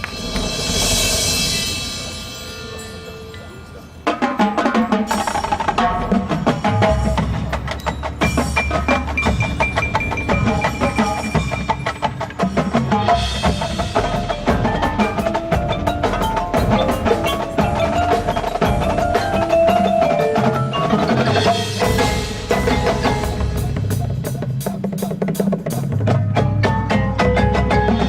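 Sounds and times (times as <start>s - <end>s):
mallet instruments and drums: 0.0s - 28.0s
marching band music: 0.0s - 28.0s.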